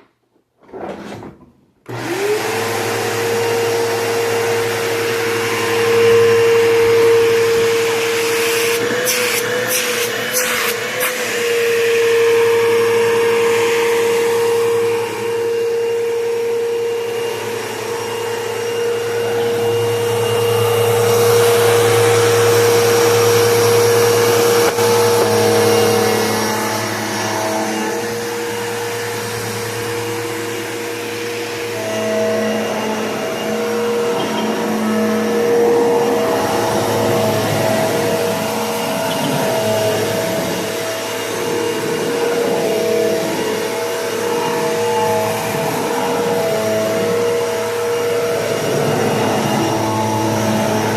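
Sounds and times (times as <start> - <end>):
vacuum cleaner running: 0.8 - 50.9.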